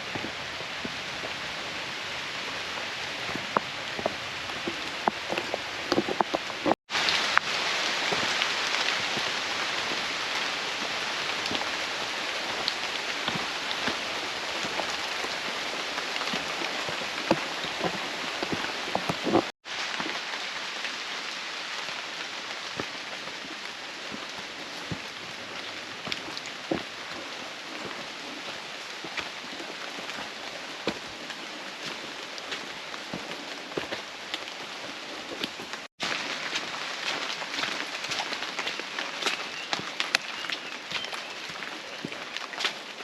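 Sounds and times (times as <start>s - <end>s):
heavy rain hissing: 0.0s - 43.0s
raindrops ticking: 0.0s - 43.0s.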